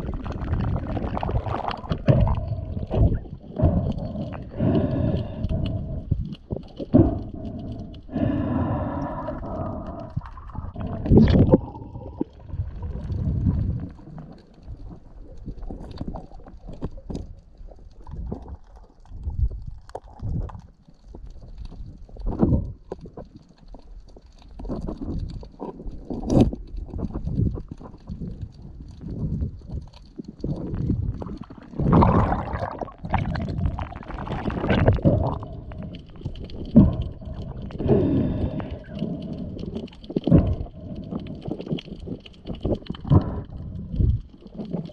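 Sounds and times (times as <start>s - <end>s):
muffled underwater rumble: 0.0s - 44.9s.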